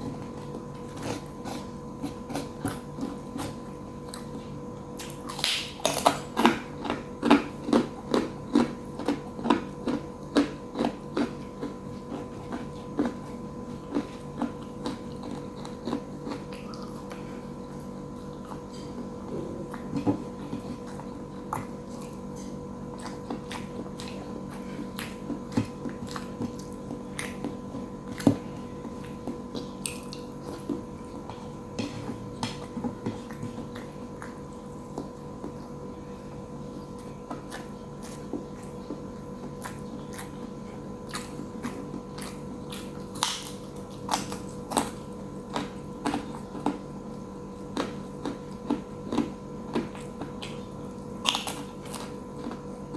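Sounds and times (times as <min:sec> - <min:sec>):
person chewing food: 0:00.0 - 0:52.9.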